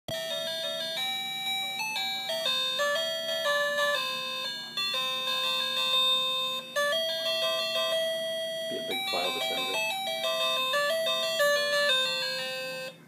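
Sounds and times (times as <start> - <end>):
tinny electronic melody: 0.1 - 13.0.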